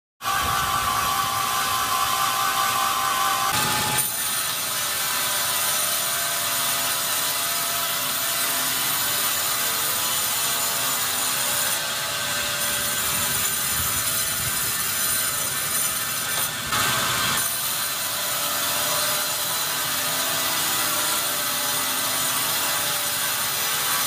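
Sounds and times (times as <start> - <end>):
band saw cutting log: 0.2 - 24.0
sawmill machinery running: 0.2 - 24.0.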